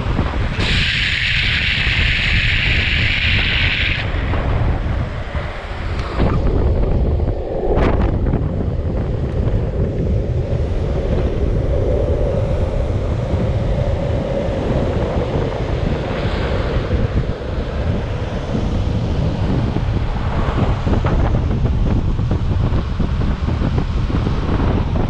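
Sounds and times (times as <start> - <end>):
skateboard wheels rolling on asphalt: 0.0 - 25.0
wind buffeting microphone: 0.0 - 25.0.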